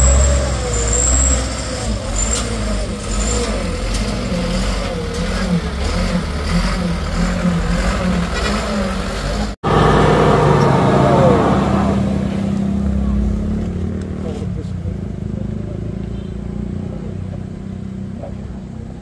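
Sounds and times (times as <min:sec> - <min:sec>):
truck engine humming: 0:00.0 - 0:19.0.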